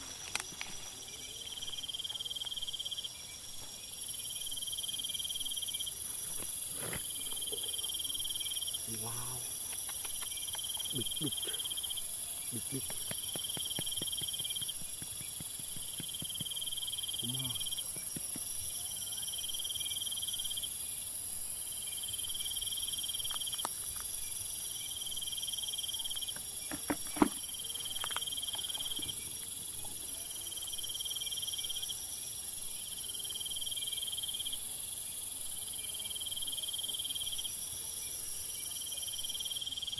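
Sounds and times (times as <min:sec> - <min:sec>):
insects whining: 0:00.0 - 0:39.9
lower insect trill: 0:00.0 - 0:39.9.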